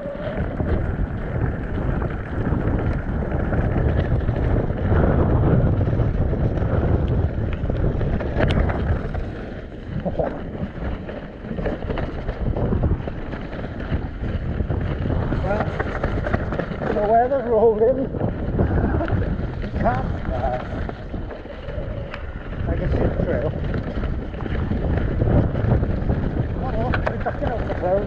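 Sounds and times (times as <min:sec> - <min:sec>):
mountain bike rumbling on trail: 0:00.0 - 0:28.0
wind buffeting microphone: 0:00.0 - 0:28.0
bike clicks and knocks: 0:00.1 - 0:27.9.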